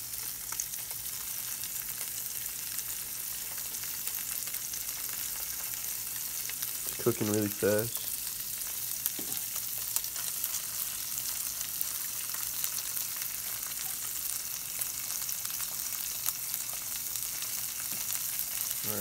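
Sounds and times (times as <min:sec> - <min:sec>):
fish fillet sizzling in a pan: 0:00.0 - 0:19.0.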